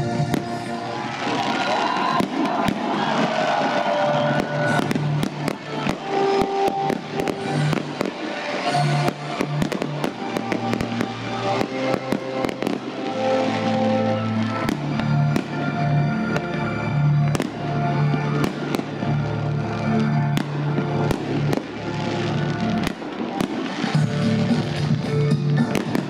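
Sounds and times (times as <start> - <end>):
fireworks bangs and crackles: 0.0 - 26.0
music with long held notes: 0.0 - 26.0.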